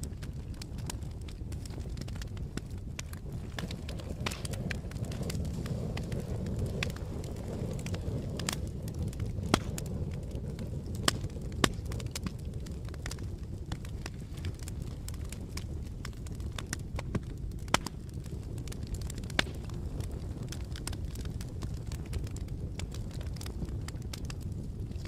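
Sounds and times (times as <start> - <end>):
campfire crackling: 0.0 - 25.0
loud fire pops: 0.0 - 25.0.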